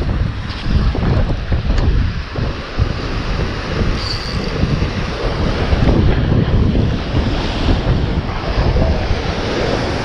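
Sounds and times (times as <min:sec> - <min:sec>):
ocean surf breaking on rock: 0:00.0 - 0:10.0
wind buffeting microphone: 0:00.0 - 0:10.0.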